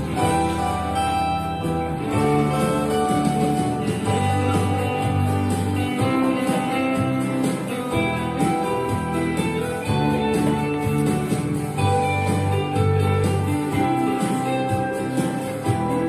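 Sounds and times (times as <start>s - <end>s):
christmas song: 0.0s - 16.0s
long steady bass notes: 0.0s - 16.0s
plucked guitar-like accompaniment: 0.0s - 16.0s.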